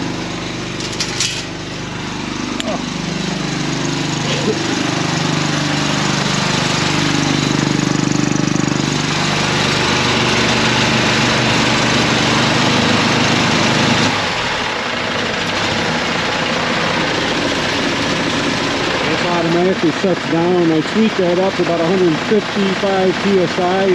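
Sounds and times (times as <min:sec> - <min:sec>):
air compressor running: 0:00.0 - 0:23.9.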